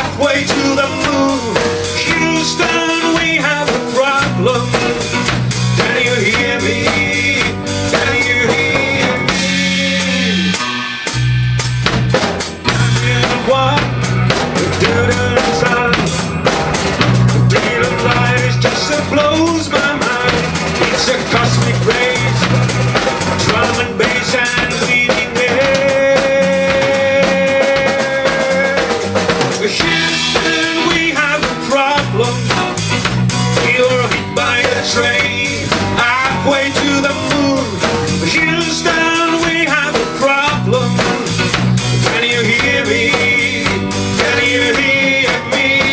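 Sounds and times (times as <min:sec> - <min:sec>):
drum kit: 0:00.0 - 0:45.9
electric bass: 0:00.0 - 0:45.9
electric guitar: 0:00.0 - 0:45.9.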